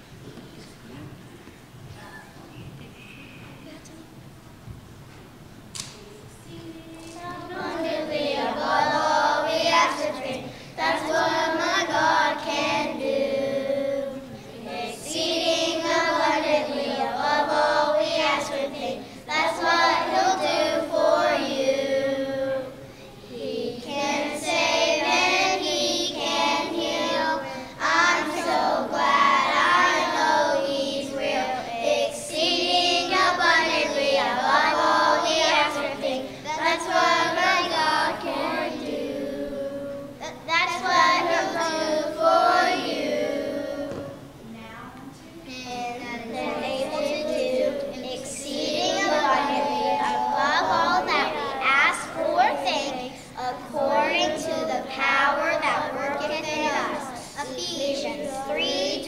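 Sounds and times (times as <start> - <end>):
young children singing: 5.7 - 44.5, 45.2 - 59.0.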